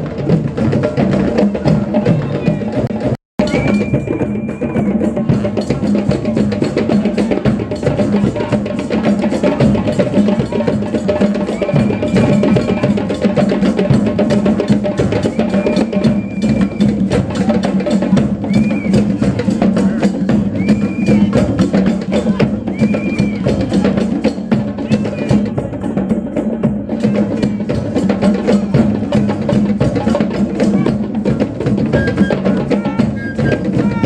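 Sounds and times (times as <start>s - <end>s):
rapid dense drumming: 0.0s - 34.0s.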